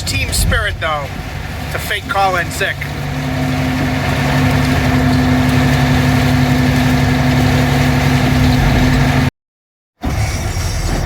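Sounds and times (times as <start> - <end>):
truck diesel engine droning: 0.0 - 9.3, 10.0 - 11.0.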